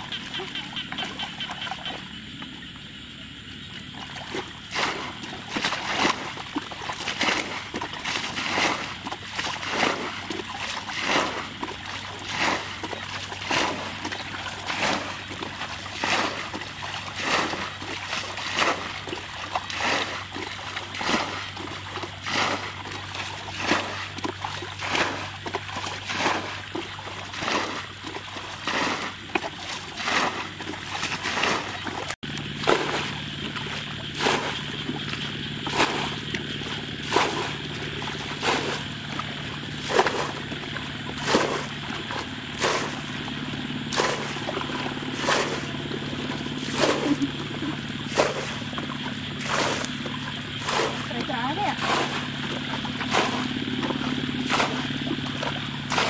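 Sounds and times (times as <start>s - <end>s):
bucket splashing water: 0.0s - 2.6s, 3.8s - 56.0s.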